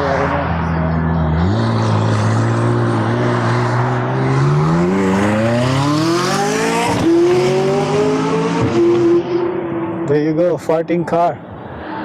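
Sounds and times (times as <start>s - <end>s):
sports car engine accelerating: 0.0s - 10.1s.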